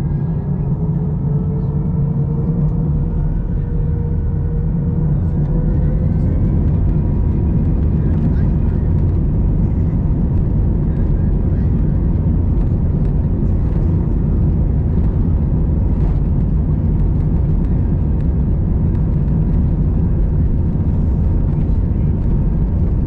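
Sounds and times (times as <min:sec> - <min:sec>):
airplane cabin engine noise: 0:00.0 - 0:23.0
faint steady whine: 0:00.0 - 0:23.0.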